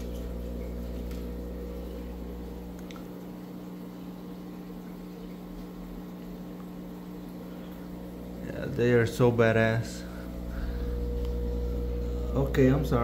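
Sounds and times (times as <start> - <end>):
water bubbling: 0.0 - 12.2
aquarium pump humming: 0.0 - 13.0.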